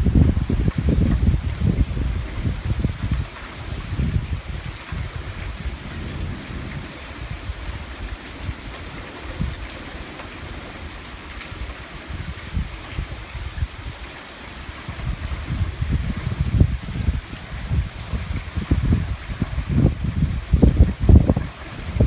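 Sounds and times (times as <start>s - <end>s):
heavy rain pattering: 0.0s - 22.0s
wind rumbling on microphone: 0.0s - 22.0s.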